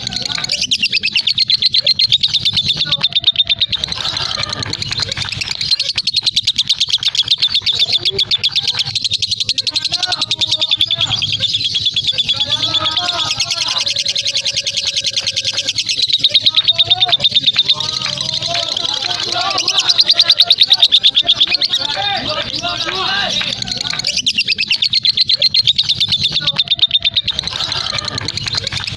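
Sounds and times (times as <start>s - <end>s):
bird chattering trill: 0.0s - 28.9s.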